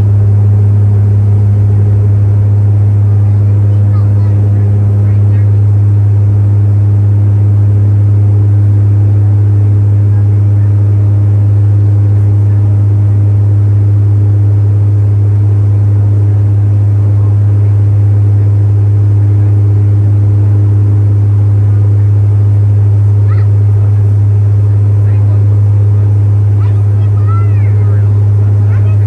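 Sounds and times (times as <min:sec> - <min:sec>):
turboprop cabin drone: 0:00.0 - 0:29.0.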